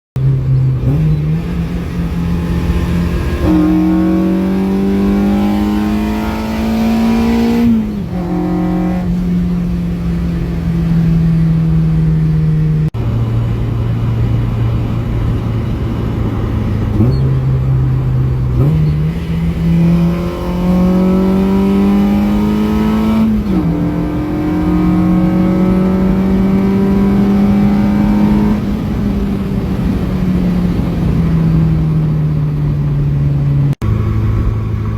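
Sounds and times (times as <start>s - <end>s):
car engine accelerating: 0.2s - 34.9s.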